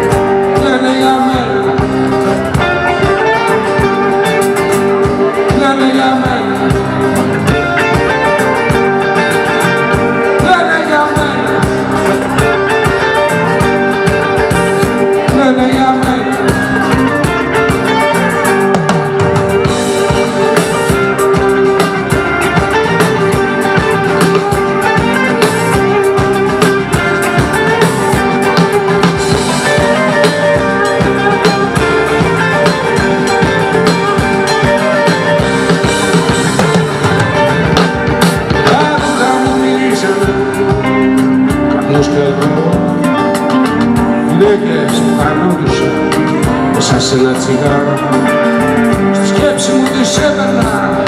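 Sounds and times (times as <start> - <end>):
drum kit: 0.0 - 51.0
electric guitar: 0.0 - 51.0.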